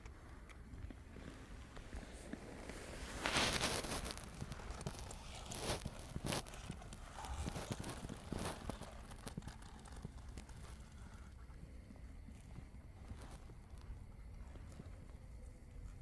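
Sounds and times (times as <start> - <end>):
horse footsteps crunching: 0.8 - 14.9.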